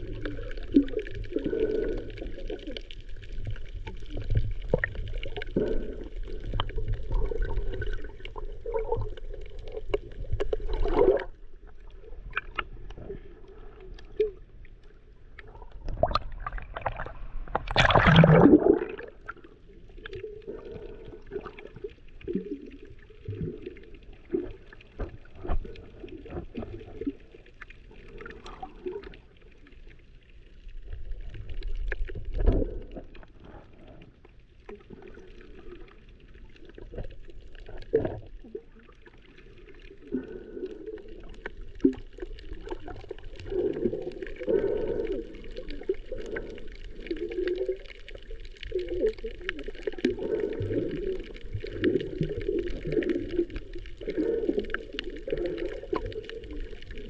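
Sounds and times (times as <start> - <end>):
muffled water: 0.0 - 57.0.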